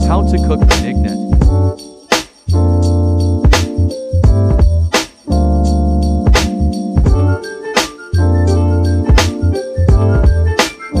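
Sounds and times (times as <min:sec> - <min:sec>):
keyboard chords over heavy bass: 0:00.0 - 0:11.0.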